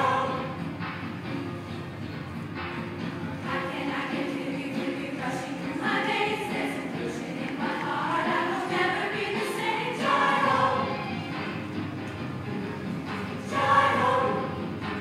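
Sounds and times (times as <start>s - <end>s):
girls' choir singing: 0.0s - 0.8s, 3.1s - 15.0s.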